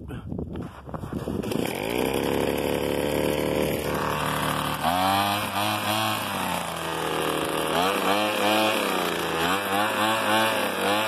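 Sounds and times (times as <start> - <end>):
leaf blower engine revving: 1.1 - 11.0.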